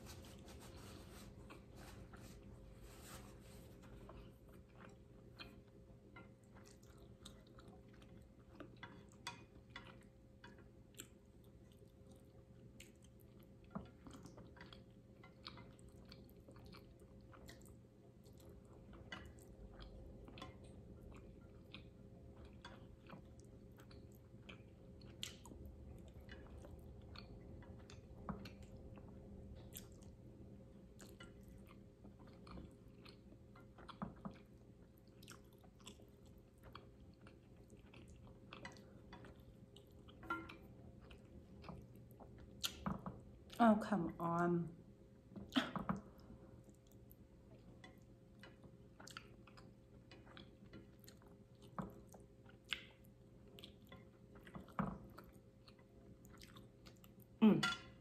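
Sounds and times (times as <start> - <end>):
faint steady hum: 0.0 - 58.0
close-up chewing of noodles: 1.3 - 43.6, 45.1 - 58.0.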